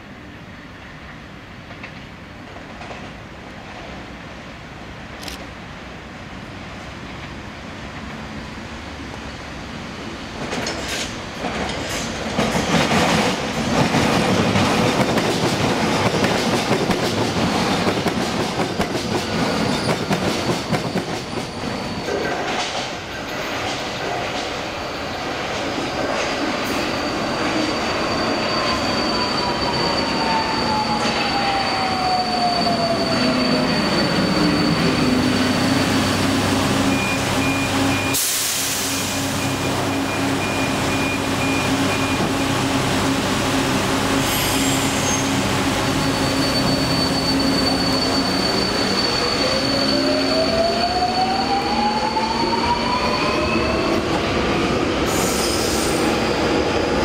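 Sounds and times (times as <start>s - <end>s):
metro train passing: 0.0s - 57.0s.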